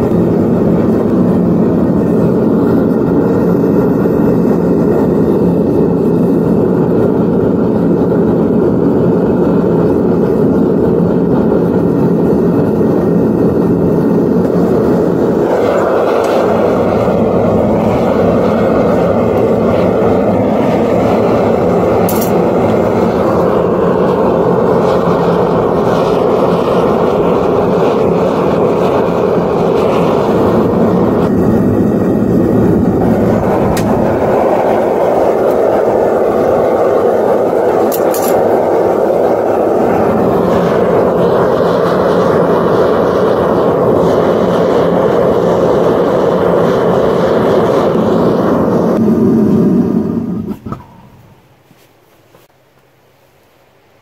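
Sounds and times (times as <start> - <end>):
gas burner roaring: 0.0 - 51.7.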